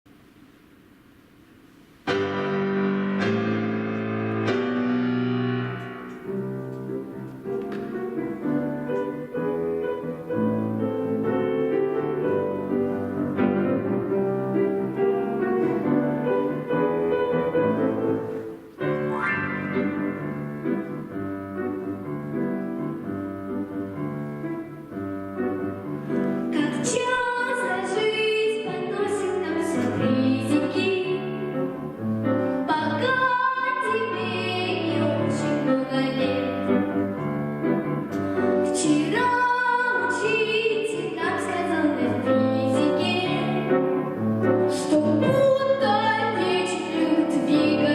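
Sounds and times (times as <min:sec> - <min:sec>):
piano music: 0:02.0 - 0:47.9.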